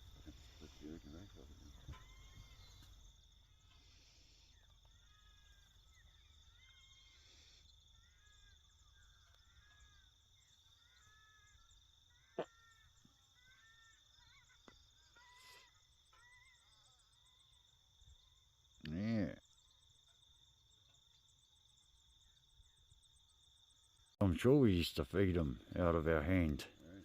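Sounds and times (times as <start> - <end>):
insect trill: 0.0 - 27.0
small birds chirping: 0.0 - 27.0.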